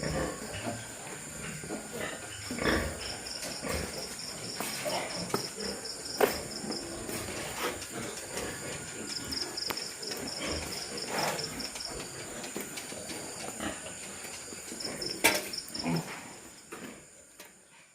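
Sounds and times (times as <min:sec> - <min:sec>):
cricket-like insect chirping: 0:00.0 - 0:17.9
pigs grunting and shuffling: 0:00.0 - 0:17.9.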